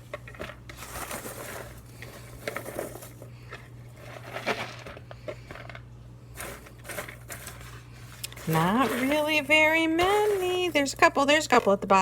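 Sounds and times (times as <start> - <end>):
popcorn rustling in plastic container: 0.0 - 12.0.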